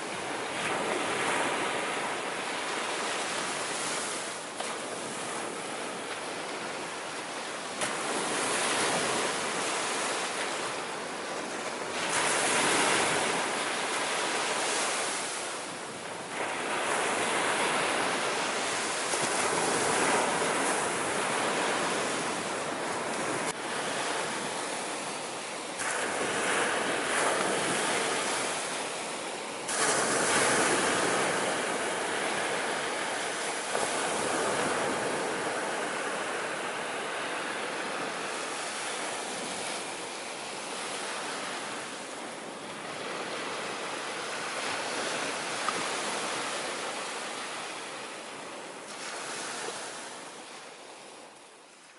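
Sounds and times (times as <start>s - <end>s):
sea waves breaking ashore: 0.0s - 51.9s.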